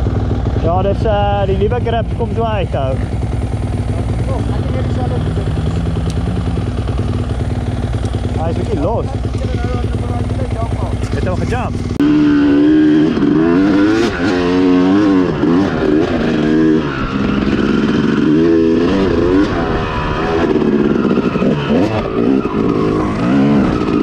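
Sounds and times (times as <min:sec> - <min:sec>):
two-stroke motocross engine revving: 0:00.0 - 0:24.0.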